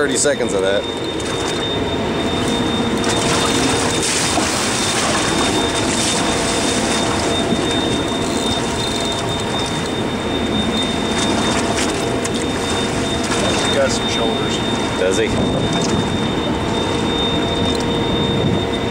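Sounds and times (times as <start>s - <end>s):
boat engine running: 0.0s - 18.9s
thin high tone: 0.0s - 18.9s
water against boat: 0.0s - 18.9s
wind: 0.0s - 18.9s.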